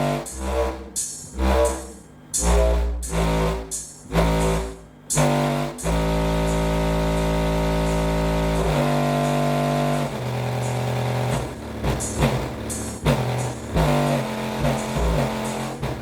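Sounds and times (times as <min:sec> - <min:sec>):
deep bass music from subwoofer: 0:00.0 - 0:16.0.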